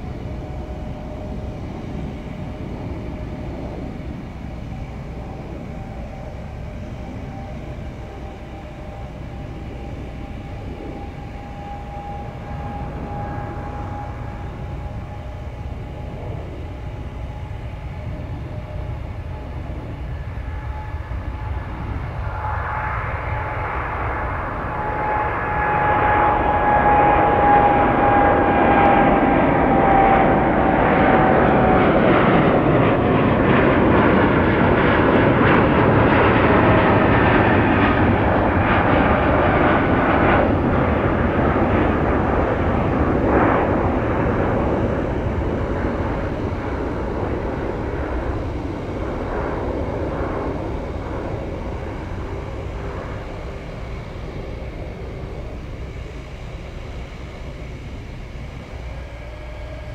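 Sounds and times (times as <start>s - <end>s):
airplane engines rumbling: 0.0s - 59.9s
jet engine whine: 0.0s - 59.9s.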